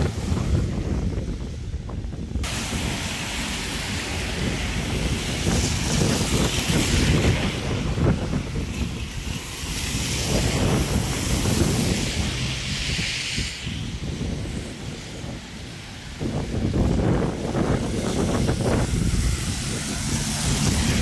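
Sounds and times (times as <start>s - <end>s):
car tyres on wet road: 0.0s - 21.0s
wind buffeting microphone: 0.0s - 21.0s
rain hiss: 2.4s - 21.0s.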